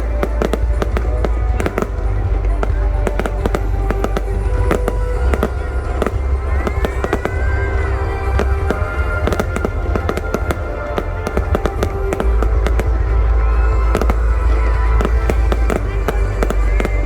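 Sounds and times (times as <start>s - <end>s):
deep continuous rumble: 0.0s - 17.0s
fireworks bangs and crackles: 0.0s - 17.0s
music playing: 0.0s - 17.0s.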